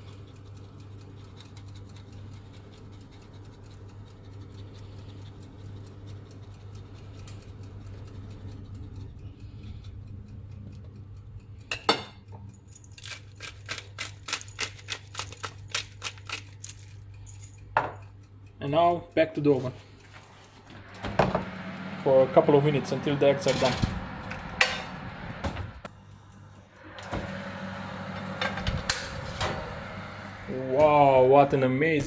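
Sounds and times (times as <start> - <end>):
steady low hum: 0.0 - 12.8, 17.0 - 32.0.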